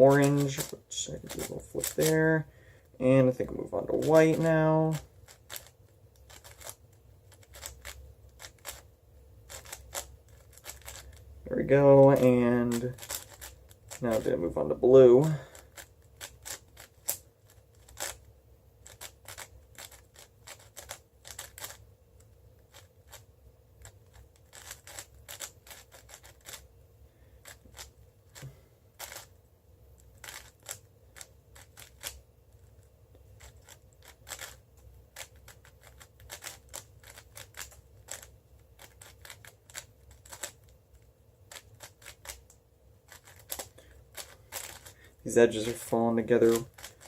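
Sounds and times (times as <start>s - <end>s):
speed cube clicking: 0.1s - 2.1s, 3.4s - 8.9s, 9.5s - 11.2s, 12.1s - 14.4s, 15.2s - 23.2s, 23.8s - 26.6s, 27.4s - 29.3s, 30.0s - 32.2s, 33.4s - 40.8s, 41.5s - 42.5s, 43.1s - 47.0s.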